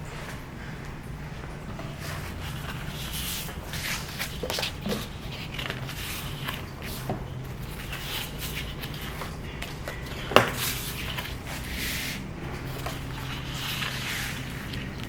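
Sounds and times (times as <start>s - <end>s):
steady low hum: 0.0s - 15.0s
paper and card rustling: 1.7s - 15.0s.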